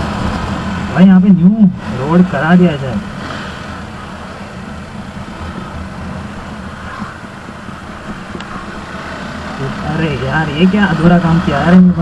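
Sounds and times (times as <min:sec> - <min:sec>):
motorcycle engine rumbling: 0:00.0 - 0:12.0
wind and road noise: 0:00.0 - 0:12.0.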